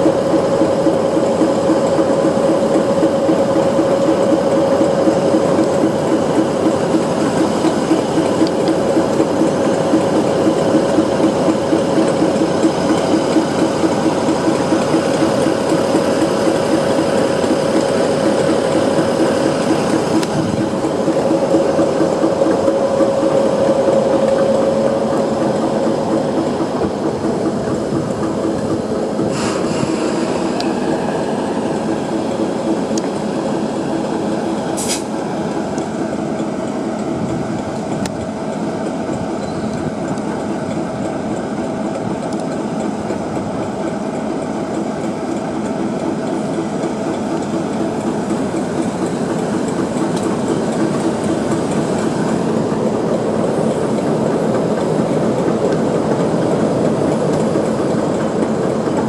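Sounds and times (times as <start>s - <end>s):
diesel locomotive engine running: 0.0s - 59.0s
train wheels rumbling on rails: 0.0s - 59.0s.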